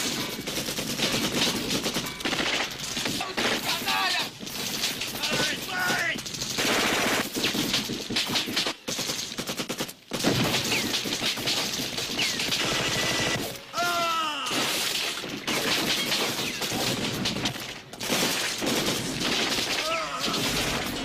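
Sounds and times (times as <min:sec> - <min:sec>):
rapid automatic gunfire: 0:00.0 - 0:13.7, 0:14.5 - 0:21.0.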